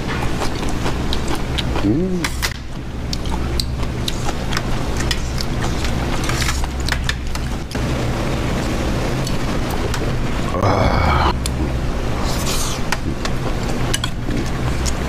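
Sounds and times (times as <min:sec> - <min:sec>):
restaurant background rumble: 0:00.0 - 0:15.0.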